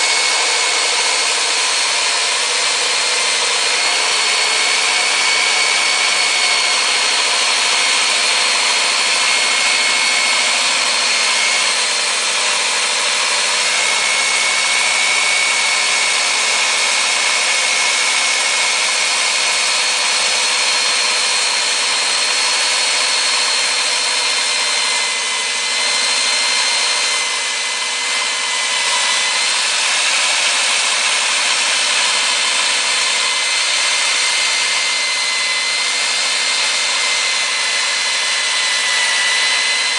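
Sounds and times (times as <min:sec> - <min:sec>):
core drill motor whining: 0:00.0 - 0:39.9.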